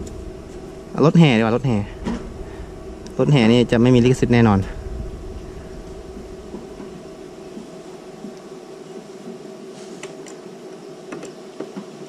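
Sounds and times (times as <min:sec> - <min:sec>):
sound system hum and hiss: 0:00.0 - 0:12.0.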